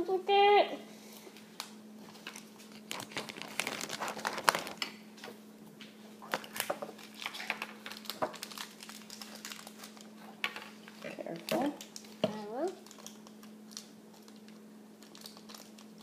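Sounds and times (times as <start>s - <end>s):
faint steady hum: 0.0s - 16.0s
packaging crinkling: 1.2s - 5.0s, 6.2s - 16.0s.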